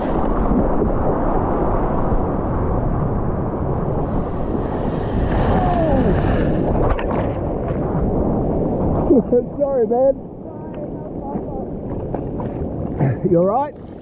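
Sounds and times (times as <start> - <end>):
water rushing: 0.0 - 14.0
water splashing: 0.0 - 14.0
wind buffeting microphone: 0.0 - 14.0.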